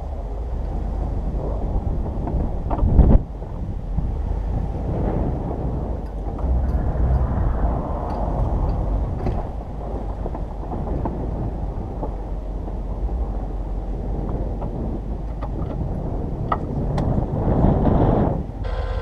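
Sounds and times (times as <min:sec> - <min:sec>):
vehicle engine running: 0:00.0 - 0:17.2, 0:18.4 - 0:19.0
wind buffeting microphone: 0:00.0 - 0:19.0.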